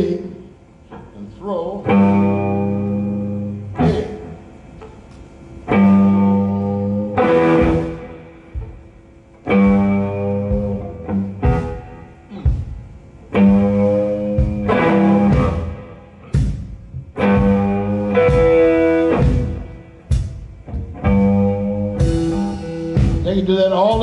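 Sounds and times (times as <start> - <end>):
guitar playing slow rhythm: 1.8 - 24.0.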